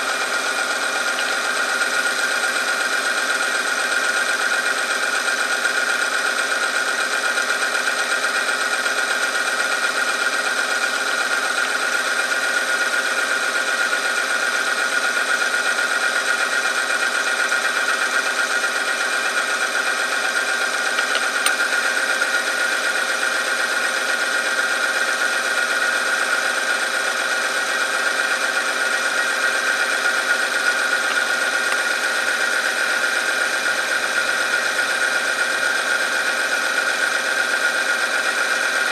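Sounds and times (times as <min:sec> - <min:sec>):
motor whine with high tone: 0:00.0 - 0:38.9.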